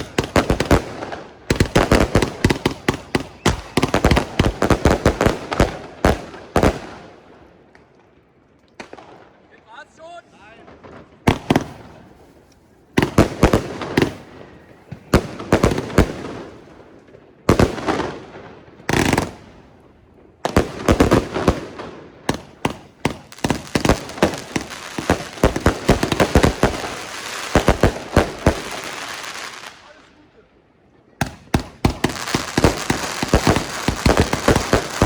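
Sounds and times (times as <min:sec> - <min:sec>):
fireworks bangs and crackling: 0:00.0 - 0:30.2, 0:31.2 - 0:35.0.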